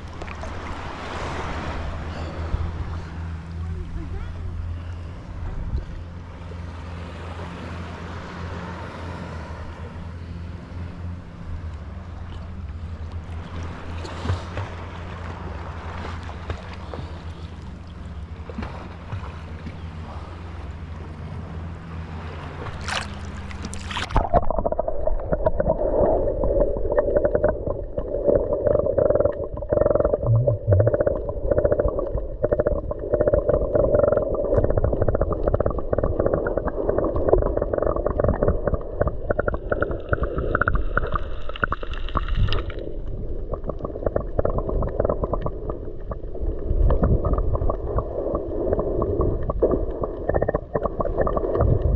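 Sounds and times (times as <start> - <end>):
boat engine droning: 0.0 - 51.9
underwater bubbling and gurgling: 0.0 - 51.9.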